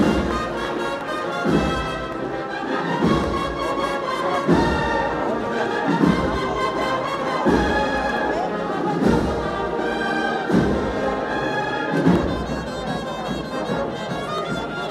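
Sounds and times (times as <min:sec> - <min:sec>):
brass band playing a march: 0:00.0 - 0:14.9.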